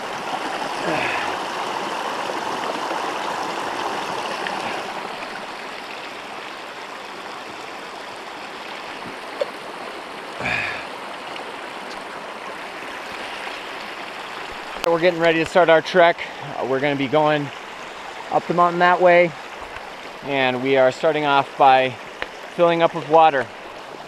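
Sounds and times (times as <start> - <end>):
stream running over rocks: 0.0 - 24.0.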